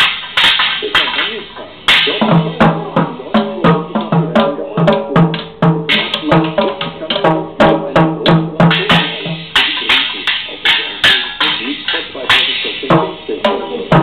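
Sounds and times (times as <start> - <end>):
child beating toy drum kit: 0.0 - 14.0.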